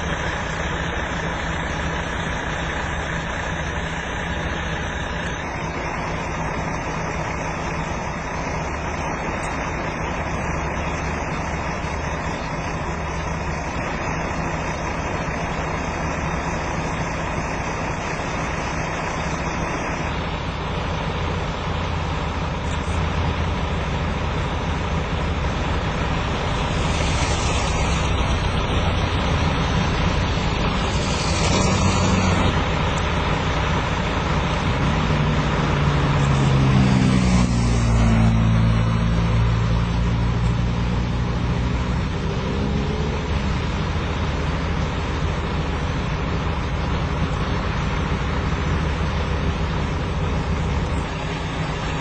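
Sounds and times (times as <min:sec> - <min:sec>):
vehicle engine humming: 0:00.0 - 0:52.0.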